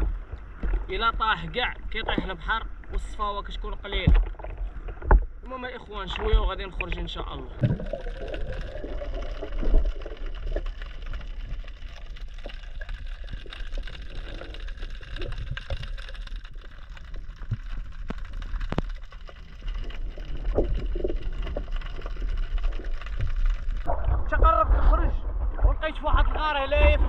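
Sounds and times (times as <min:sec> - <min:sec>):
muffled water sloshing: 0:00.0 - 0:27.0.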